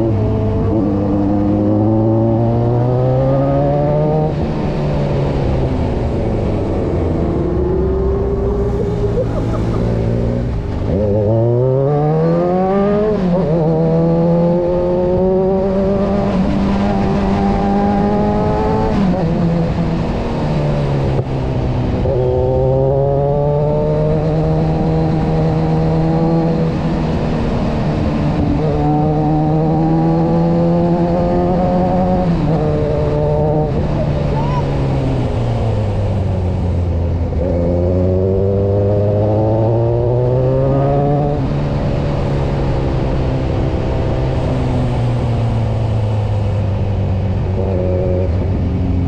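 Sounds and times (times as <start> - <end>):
motorcycle engine: 0.0 - 49.0.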